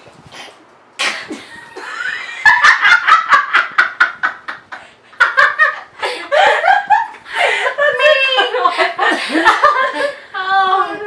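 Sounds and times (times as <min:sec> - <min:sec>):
women laughing: 0:01.3 - 0:11.0.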